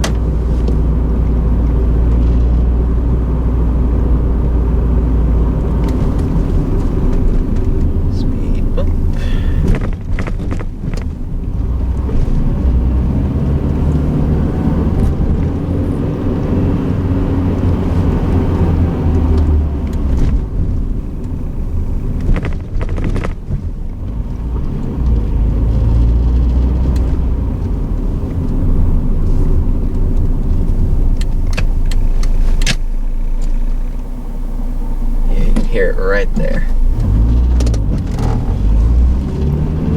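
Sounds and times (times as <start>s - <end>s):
car engine running: 0.0s - 39.9s
road rumble: 0.0s - 39.9s.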